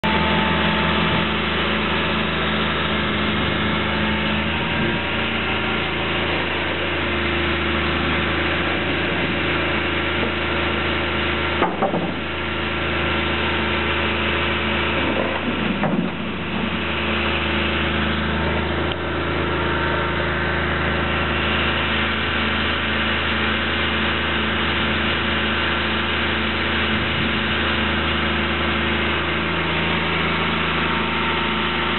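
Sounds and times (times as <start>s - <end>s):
truck engine idling: 0.0s - 31.9s.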